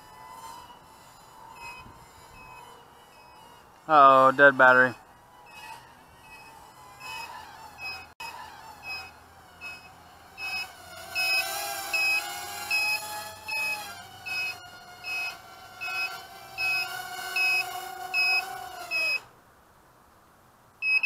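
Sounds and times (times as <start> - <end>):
quadcopter motors whining: 0.0 - 19.3
low-voltage buzzer beeping: 0.3 - 4.1, 5.5 - 8.1, 8.8 - 19.3.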